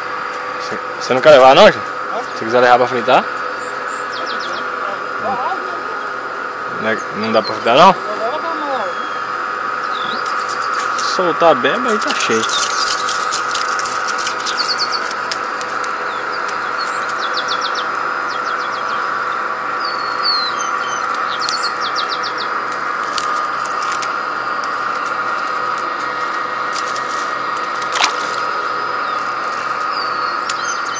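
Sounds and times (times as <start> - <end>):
steady background drone: 0.0 - 30.9
small birds chirping: 0.6 - 30.9.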